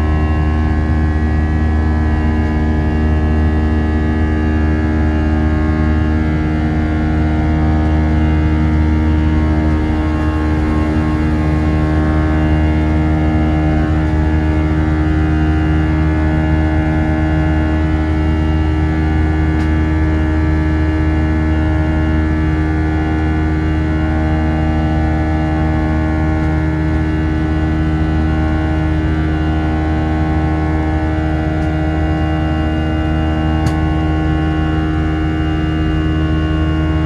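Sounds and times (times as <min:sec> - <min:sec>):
jet engine drone: 0:00.0 - 0:37.0.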